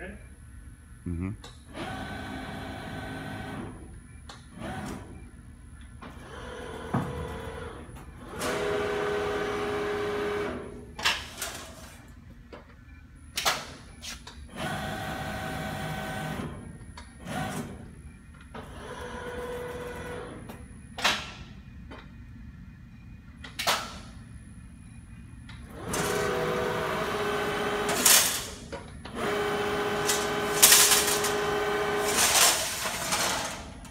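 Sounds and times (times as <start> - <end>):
folding machine whine: 1.7 - 33.9.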